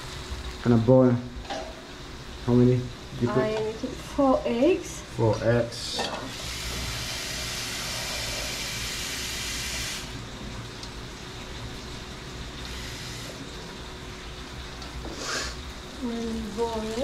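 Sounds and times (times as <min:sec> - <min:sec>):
tap water filling a steel saucepan: 0:00.0 - 0:03.8, 0:05.2 - 0:17.0.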